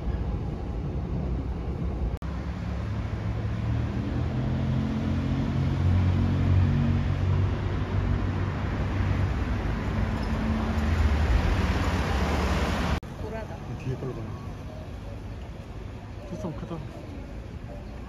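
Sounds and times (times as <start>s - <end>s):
vehicles passing on street: 0.0s - 18.0s.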